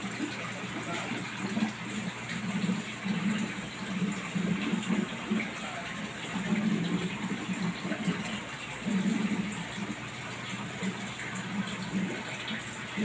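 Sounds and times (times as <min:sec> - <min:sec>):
aquarium water bubbling: 0:00.0 - 0:13.0.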